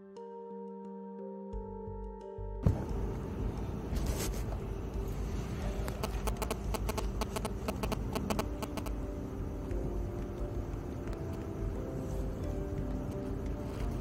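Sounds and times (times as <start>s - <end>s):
car engine and road rumble: 2.6s - 14.0s.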